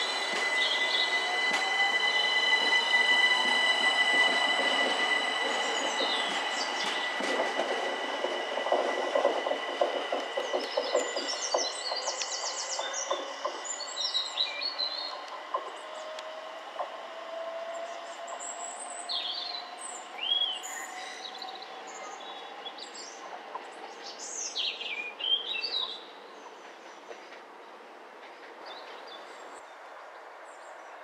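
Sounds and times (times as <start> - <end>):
distant electric train whine: 0.0 - 30.4.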